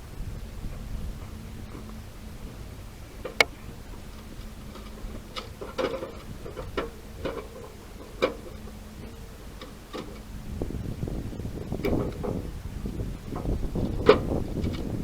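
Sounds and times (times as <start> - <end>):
light clicks and knocks: 0.7 - 15.0.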